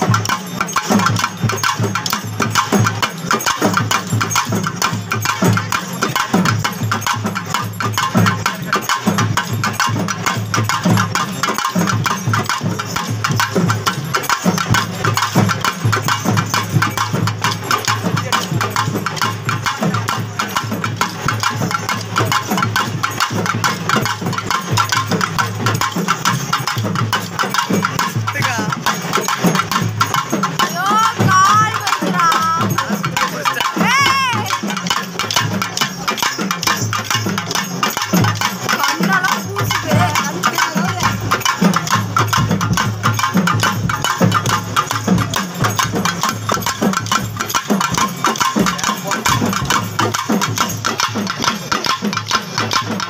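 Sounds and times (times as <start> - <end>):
drums beaten with sticks: 0.0 - 53.0.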